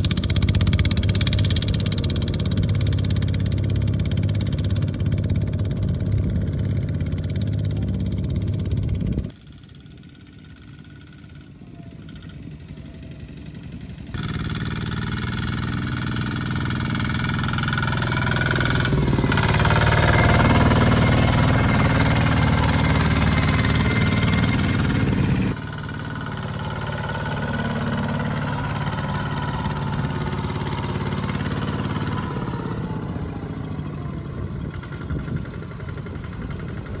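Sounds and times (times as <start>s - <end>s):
diesel tractor engines running: 0.0s - 37.0s.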